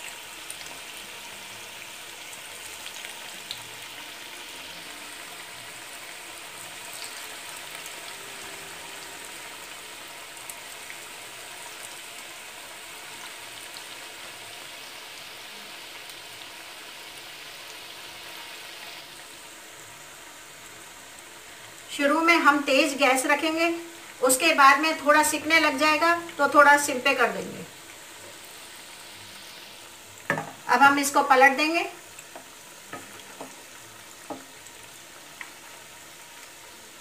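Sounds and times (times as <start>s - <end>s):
deep-frying sizzle with crackles: 0.0s - 37.0s.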